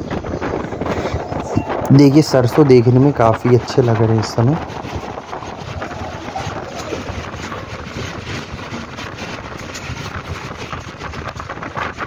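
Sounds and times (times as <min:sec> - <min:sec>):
train rumbling and rattling on track: 0:00.0 - 0:12.0
wind buffeting microphone: 0:00.0 - 0:12.0.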